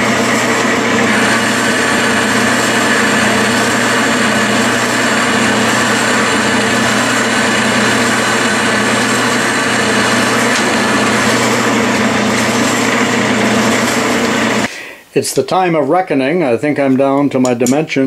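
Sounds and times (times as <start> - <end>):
metal lathe humming: 0.0 - 14.7.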